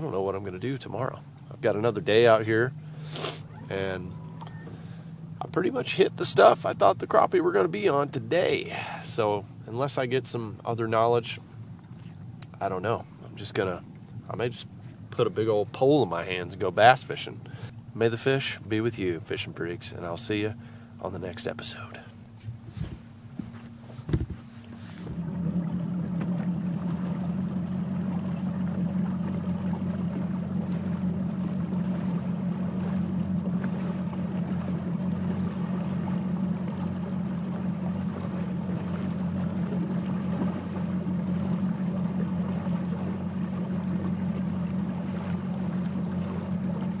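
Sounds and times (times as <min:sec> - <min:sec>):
water rushing: 0:00.0 - 0:22.9, 0:23.8 - 0:47.0
outboard motor running: 0:00.0 - 0:47.0
wind: 0:00.0 - 0:47.0.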